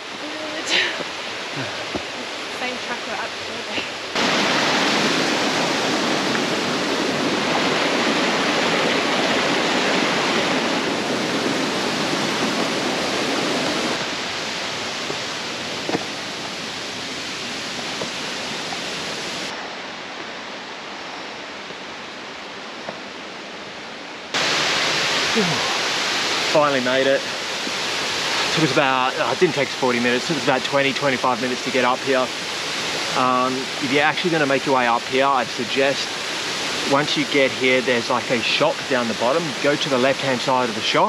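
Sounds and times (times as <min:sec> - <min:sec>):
waterfall rushing: 0:00.0 - 0:20.1, 0:24.3 - 0:41.0.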